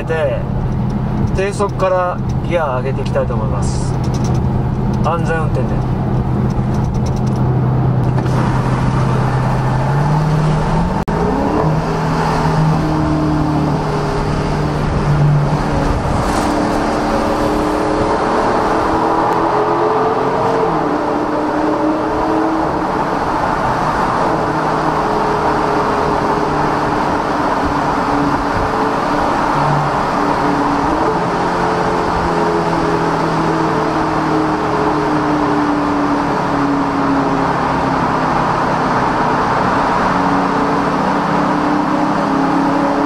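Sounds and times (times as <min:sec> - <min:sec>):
road noise: 0:00.0 - 0:43.0
car engine accelerating through gears: 0:03.6 - 0:43.0.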